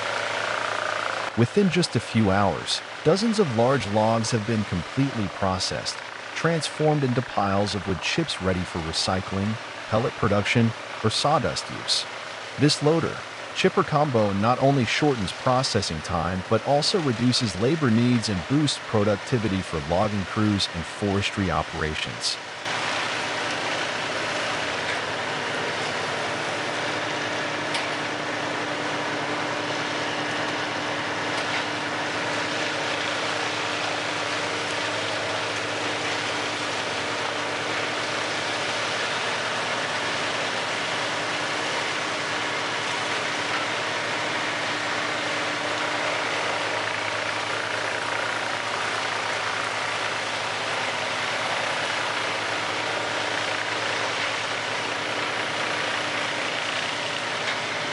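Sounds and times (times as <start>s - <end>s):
wood chipper running: 0.0s - 57.9s.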